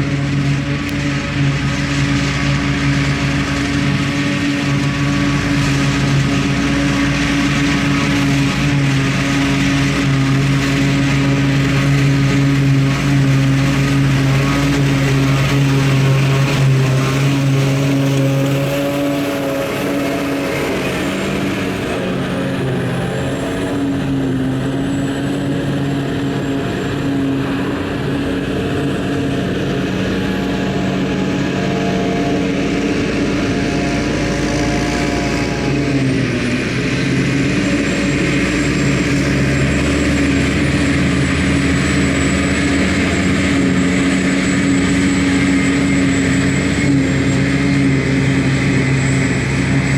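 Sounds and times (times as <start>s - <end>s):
diesel farm machinery running: 0.0s - 49.9s.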